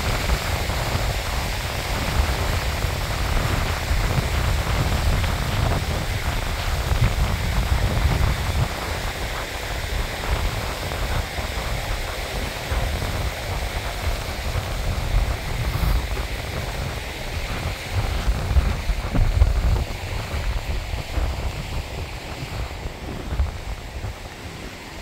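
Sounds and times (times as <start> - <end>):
steady rushing hiss: 0.0 - 25.0
wind buffeting microphone: 0.0 - 25.0.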